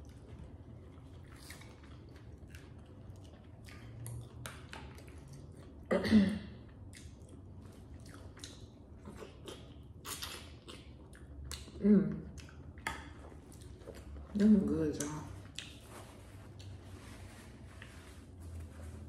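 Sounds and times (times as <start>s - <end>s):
chewing and wet squishing: 0.0s - 5.9s, 6.5s - 19.0s.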